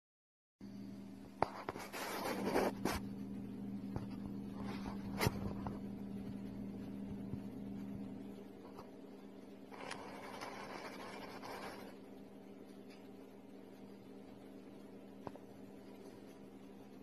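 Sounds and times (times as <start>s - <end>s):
steady low hum: 0.6s - 17.0s.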